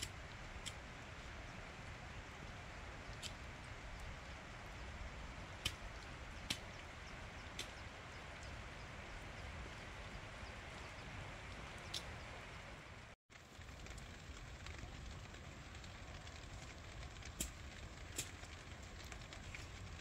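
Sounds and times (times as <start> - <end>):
light rain hissing: 0.0 - 20.0.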